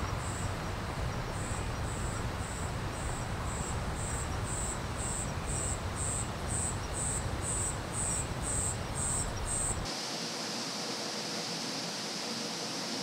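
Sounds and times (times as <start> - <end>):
insect chirping: 0.0 - 0.6, 1.3 - 13.0.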